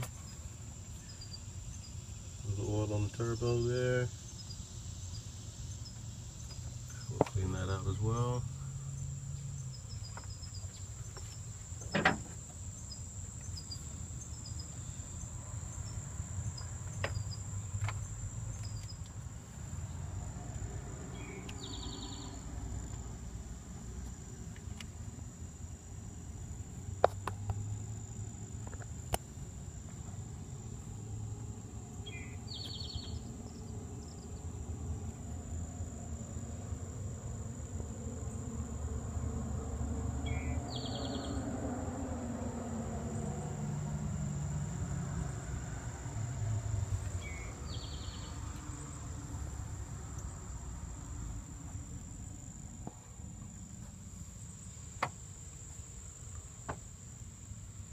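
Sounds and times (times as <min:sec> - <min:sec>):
insects trilling: 0:00.0 - 0:57.9.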